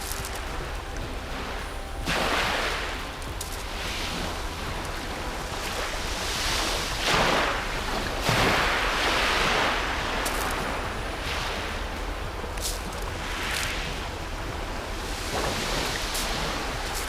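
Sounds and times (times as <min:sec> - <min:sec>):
low rumble: 0:00.0 - 0:17.0
sea waves breaking: 0:00.0 - 0:17.0.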